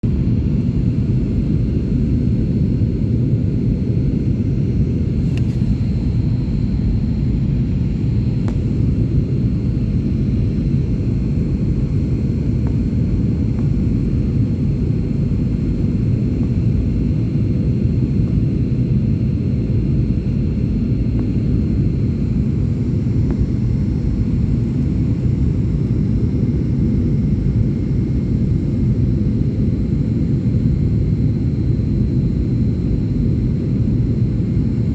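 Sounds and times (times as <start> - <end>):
airliner engines rumbling: 0.0 - 34.9
faint high whine: 0.0 - 34.9.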